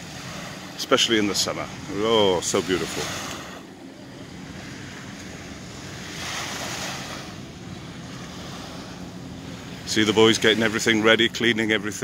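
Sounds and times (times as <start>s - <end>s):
waves washing up beach: 0.0s - 12.0s.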